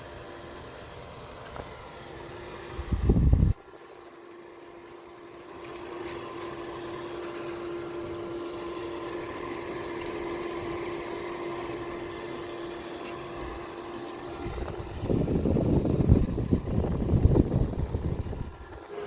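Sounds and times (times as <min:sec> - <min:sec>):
small electric motor humming: 0:00.0 - 0:19.0.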